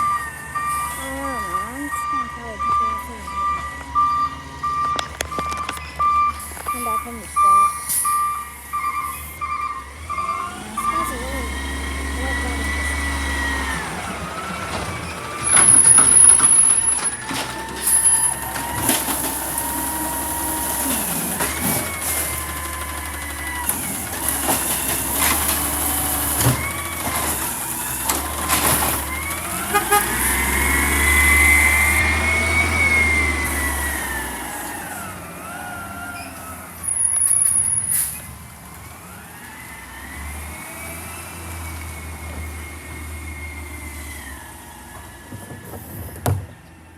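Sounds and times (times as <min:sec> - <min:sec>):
truck engine whining: 0:00.0 - 0:46.9.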